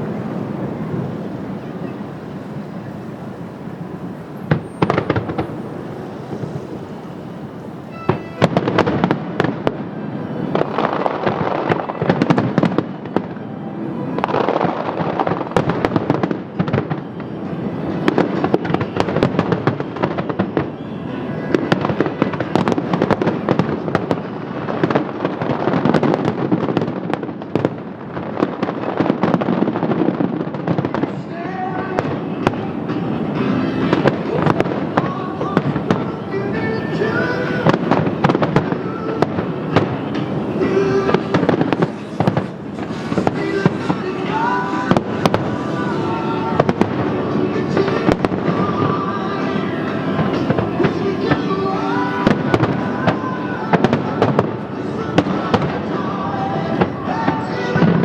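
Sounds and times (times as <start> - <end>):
music playing: 0.0 - 26.0, 29.8 - 58.0
fireworks bangs and crackles: 0.0 - 58.0.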